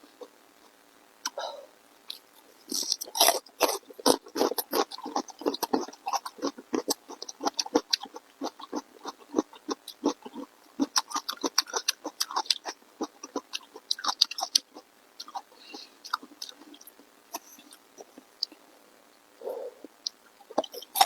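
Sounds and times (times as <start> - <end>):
crackly mouth clicks: 0.2 - 1.4, 2.1 - 18.6, 19.8 - 21.0
wet chewing and smacking: 2.1 - 15.5, 16.1 - 18.6, 19.8 - 21.0.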